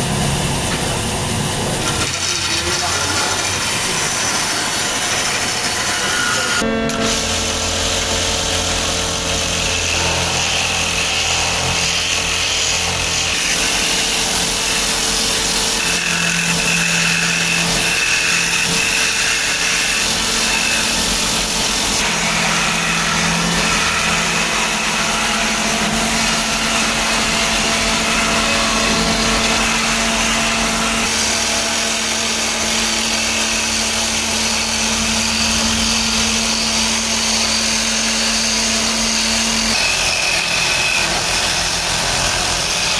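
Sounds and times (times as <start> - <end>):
cutter rasping wood: 0.0 - 42.9
lathe motor hum: 0.0 - 42.9.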